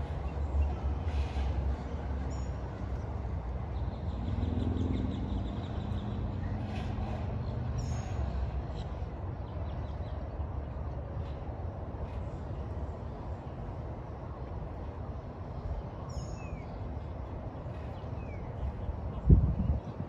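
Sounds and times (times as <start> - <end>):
gondola low rumble: 0.0 - 20.0.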